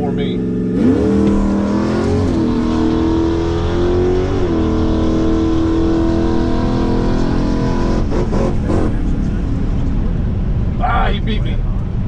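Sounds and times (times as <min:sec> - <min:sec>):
road and wind rumble: 0:00.0 - 0:12.0.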